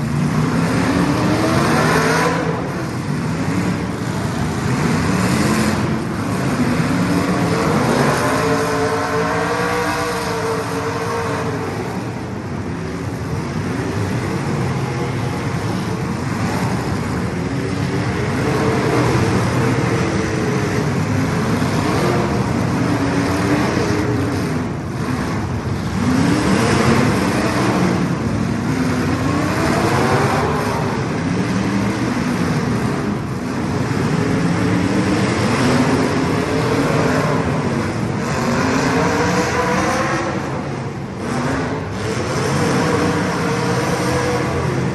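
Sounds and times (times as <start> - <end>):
small race car engines passing: 0.0 - 44.9.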